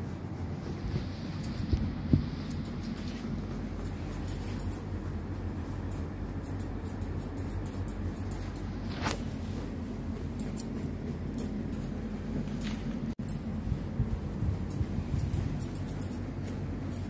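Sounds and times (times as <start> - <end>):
low room hum: 0.0 - 17.0
scissors snipping fur: 1.3 - 9.4, 10.2 - 13.5, 14.6 - 17.0.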